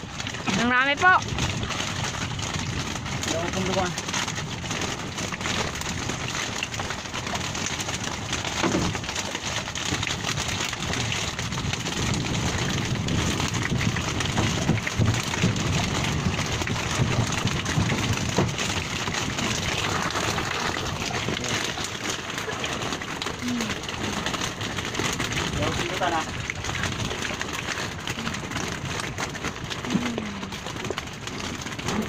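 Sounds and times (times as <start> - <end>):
seawater splashing and dripping: 0.0 - 32.0.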